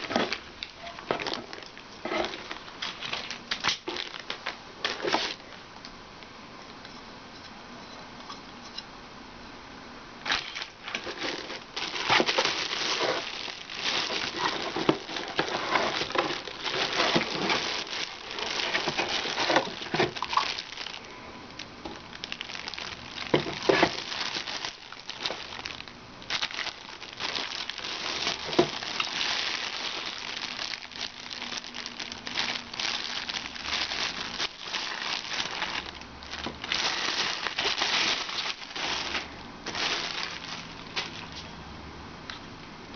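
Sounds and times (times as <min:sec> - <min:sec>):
packaging crinkling and rustling: 0:00.0 - 0:05.6, 0:10.2 - 0:41.5.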